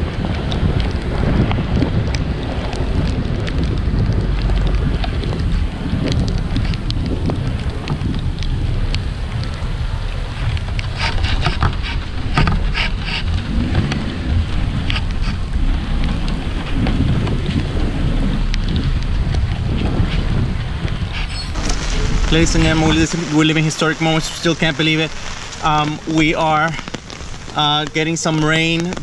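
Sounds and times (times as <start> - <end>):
low rumble: 0.0 - 28.7
rain falling: 0.0 - 29.0.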